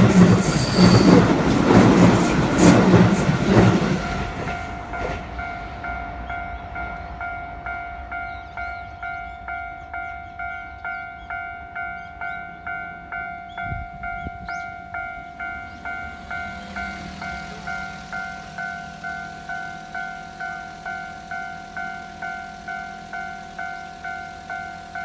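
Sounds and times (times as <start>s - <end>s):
level-crossing bell dinging: 0.0s - 2.8s, 3.8s - 25.0s
passing train: 0.0s - 25.0s.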